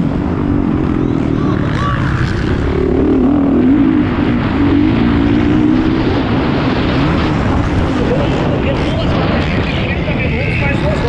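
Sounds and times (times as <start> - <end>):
motocross bike engine revving: 0.0 - 11.0
wind rush and rumble: 0.0 - 11.0.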